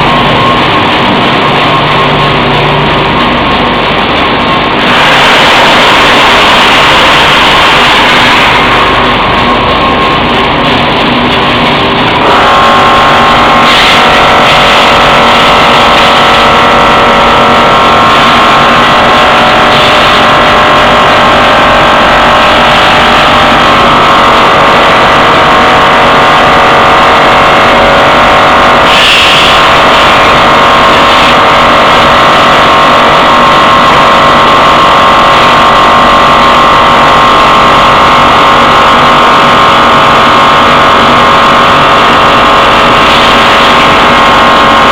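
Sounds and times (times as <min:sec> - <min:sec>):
machinery drone with whining tones: 0:00.0 - 0:44.9.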